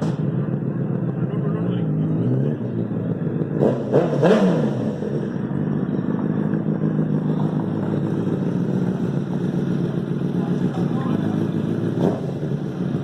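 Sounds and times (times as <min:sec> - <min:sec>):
motorcycle engine running: 0:00.0 - 0:13.0
motorcycle throttle rev: 0:00.0 - 0:13.0.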